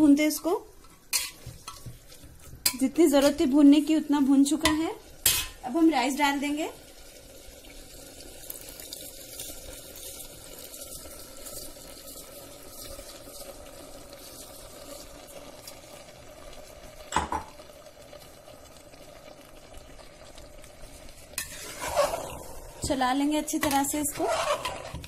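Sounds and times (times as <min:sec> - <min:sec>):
wet bubbling in pressure cooker: 0:00.0 - 0:25.0.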